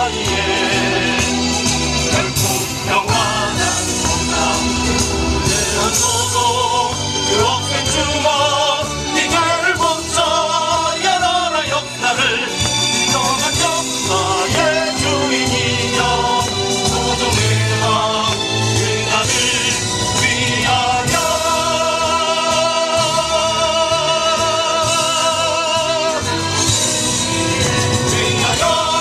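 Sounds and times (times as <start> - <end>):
bass and accompaniment: 0.0 - 29.0
person singing: 0.0 - 29.0.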